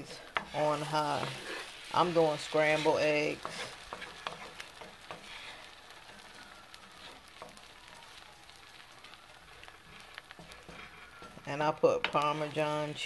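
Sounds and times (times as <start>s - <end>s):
wooden spatula scraping pan: 0.0s - 7.7s, 9.5s - 13.0s
eggs frying in a pan: 0.0s - 13.0s.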